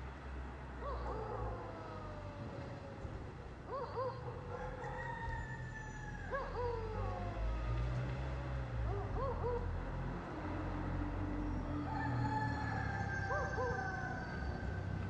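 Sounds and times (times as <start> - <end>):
long falling howls: 0.8 - 8.0, 8.9 - 15.0.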